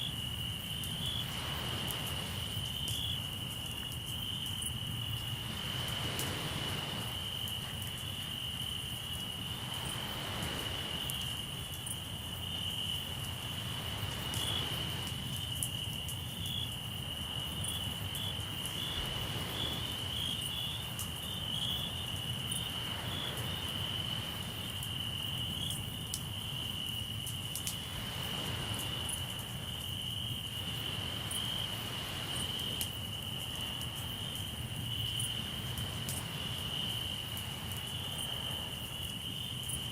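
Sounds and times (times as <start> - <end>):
campfire crackling: 0.0 - 39.9
crickets trilling: 0.0 - 39.9
sea waves washing in: 0.2 - 16.1, 16.7 - 26.7, 27.4 - 39.9.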